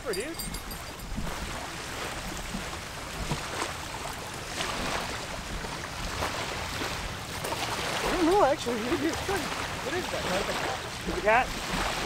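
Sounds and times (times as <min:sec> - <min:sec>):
small waves washing on shore: 0:00.0 - 0:12.0.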